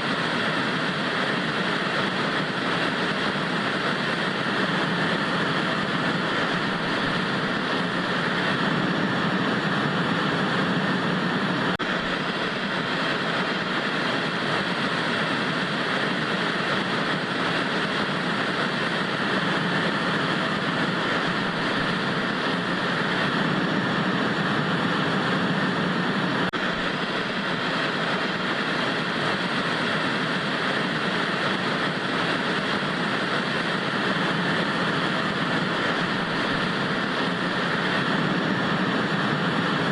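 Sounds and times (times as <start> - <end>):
tv static hiss: 0.0 - 39.9.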